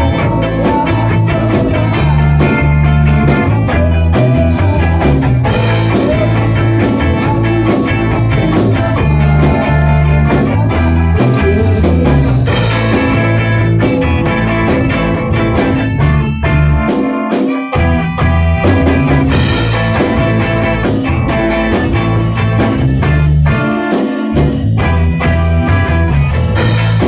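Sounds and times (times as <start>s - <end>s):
bass line: 0.0s - 17.0s, 17.8s - 27.0s
drum kit: 0.0s - 27.0s
electric guitar: 0.0s - 27.0s.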